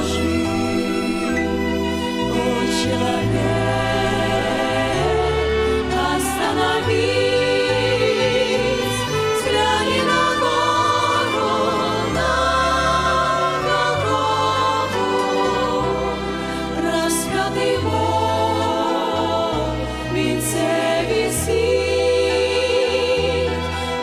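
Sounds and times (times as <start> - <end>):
choir singing held notes: 0.0 - 24.0
instrumental accompaniment: 0.0 - 24.0.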